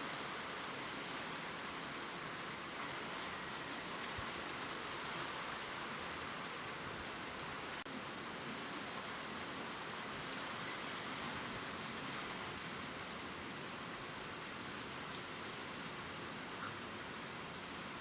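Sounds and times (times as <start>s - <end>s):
rain pattering on leaves: 0.0s - 18.0s.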